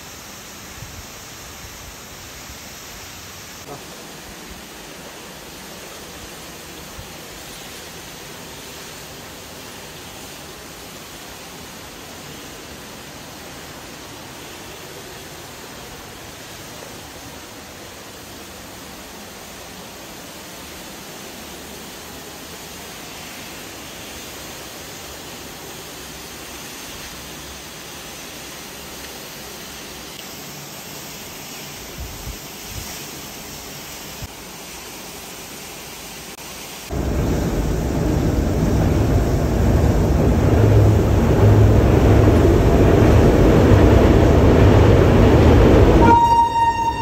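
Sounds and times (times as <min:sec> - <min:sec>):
train crossing a bridge: 0:00.0 - 0:32.2, 0:36.9 - 0:47.0
rush of falling water: 0:00.0 - 0:46.0.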